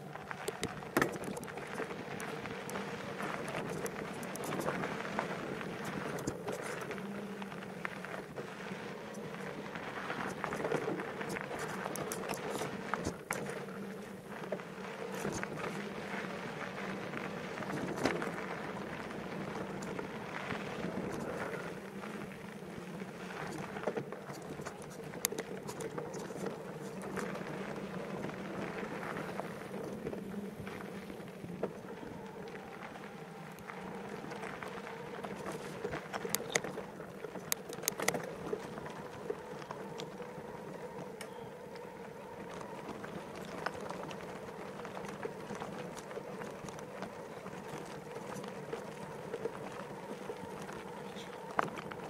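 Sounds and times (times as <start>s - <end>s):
bike tyres on dirt trail: 0.0s - 52.0s.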